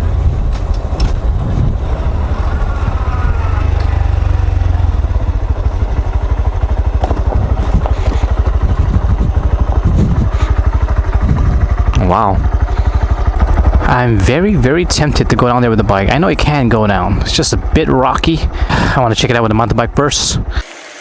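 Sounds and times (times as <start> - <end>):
motorcycle engine running: 0.0 - 20.7.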